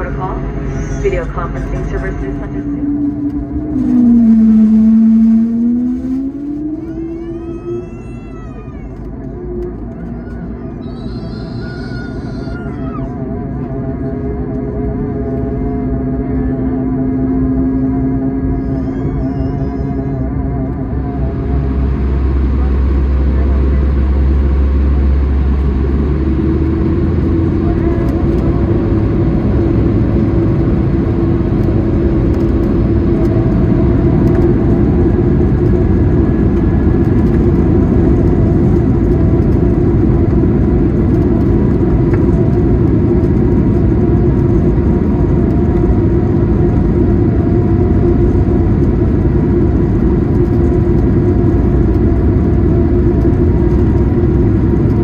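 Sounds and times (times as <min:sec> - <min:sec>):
held hum: 0:00.0 - 0:55.0
jet engine noise in cabin: 0:00.0 - 0:55.0.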